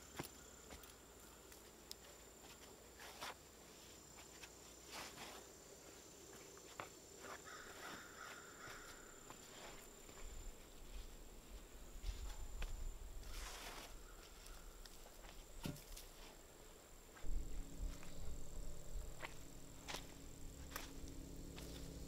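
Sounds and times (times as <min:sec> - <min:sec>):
faint high insect buzz: 0:00.0 - 0:22.0.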